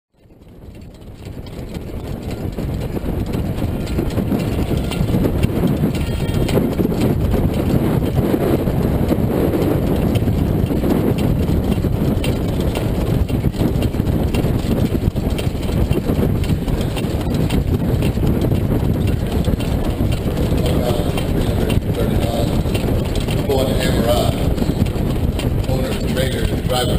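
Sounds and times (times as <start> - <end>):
horse hoofbeats on dirt: 0.1 - 26.9
wind rumble on microphone: 0.2 - 26.9.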